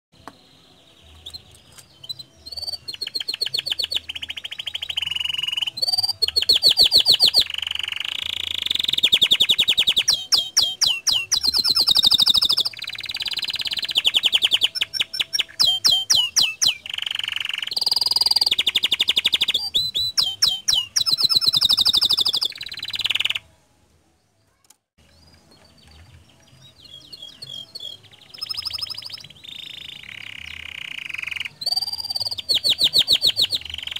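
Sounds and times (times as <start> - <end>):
canary singing trills: 0.2 - 23.5, 24.5 - 33.9.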